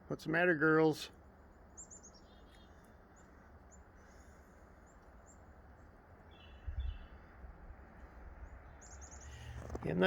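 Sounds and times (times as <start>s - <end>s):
small birds chirping: 0.9s - 10.0s.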